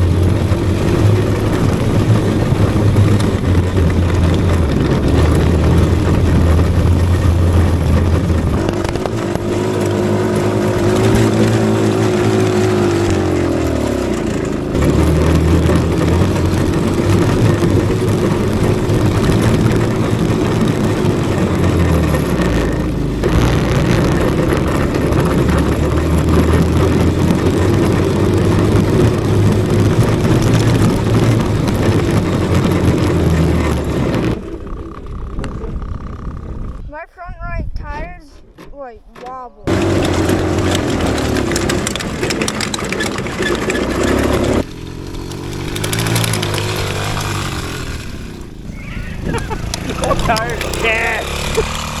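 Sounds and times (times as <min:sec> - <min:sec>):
small petrol engine revving: 0:00.0 - 0:36.9, 0:39.6 - 0:52.0.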